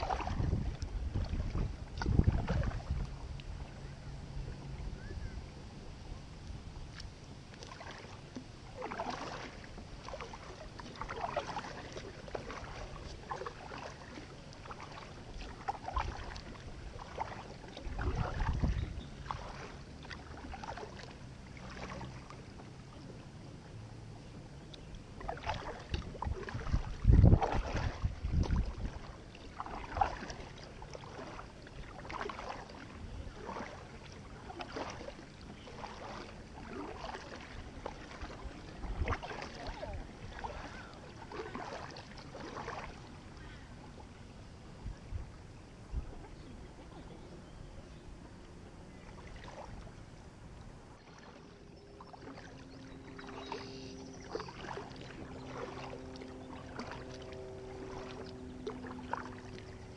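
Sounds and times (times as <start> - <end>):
paddle splashing and dripping: 0.0 - 59.9.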